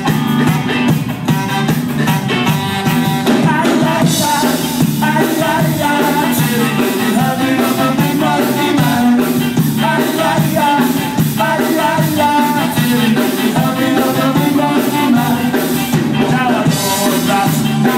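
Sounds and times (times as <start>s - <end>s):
drums: 0.0s - 17.9s
electric guitars: 0.0s - 17.9s
saxophone: 0.0s - 17.9s
person singing: 2.8s - 17.9s.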